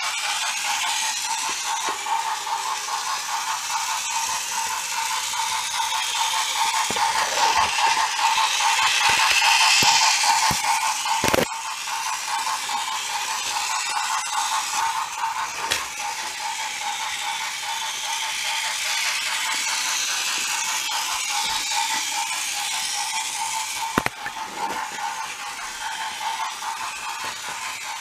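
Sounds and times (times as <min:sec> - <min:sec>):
toy train motor whirring: 0:00.0 - 0:28.0
wheels clicking over track joints: 0:00.0 - 0:28.0.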